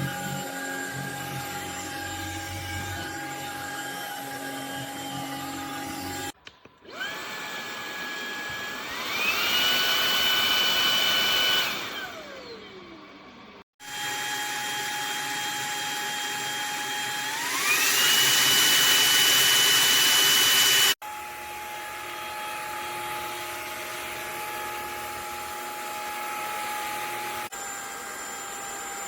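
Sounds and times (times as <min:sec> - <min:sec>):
vacuum motor whining: 0:00.0 - 0:29.0.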